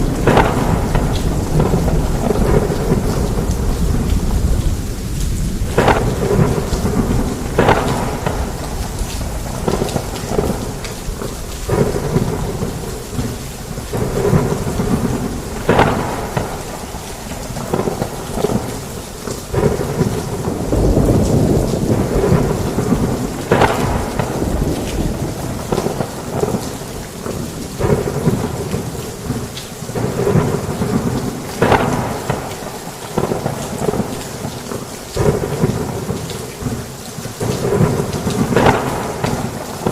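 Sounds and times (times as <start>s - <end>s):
heavy rain on a roof: 0.0s - 39.9s
thunder rumbling: 0.0s - 39.9s.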